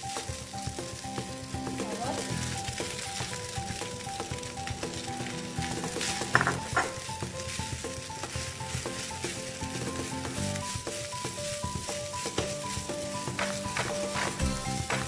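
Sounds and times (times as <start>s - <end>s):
background music: 0.0s - 15.0s
rice sizzling in a frying pan: 0.0s - 15.0s
wooden spatula stirring: 0.0s - 15.0s.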